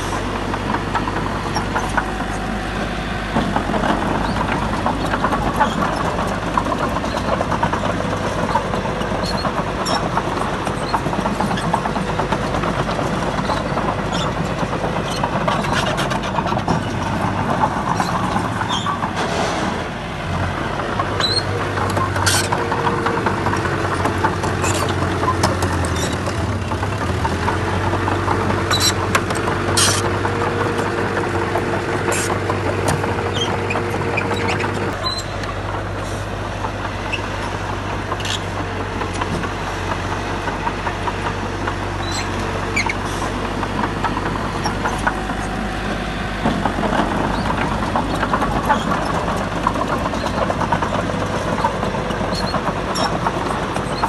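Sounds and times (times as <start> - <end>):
diesel engine running: 0.0 - 54.0
clanks and knocks: 0.4 - 20.0, 20.7 - 54.0.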